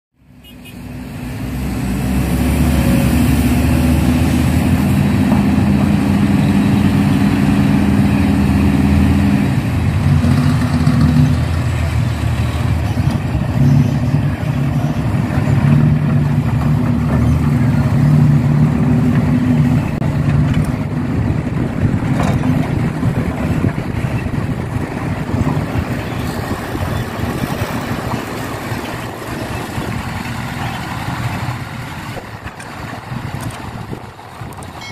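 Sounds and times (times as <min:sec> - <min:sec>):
heavy diesel engines running: 0:00.2 - 0:34.9.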